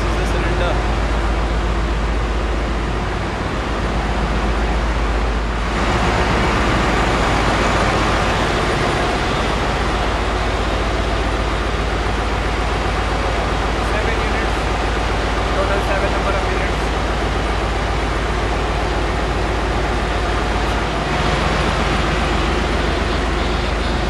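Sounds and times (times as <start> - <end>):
engine room machinery din: 0.0 - 24.0.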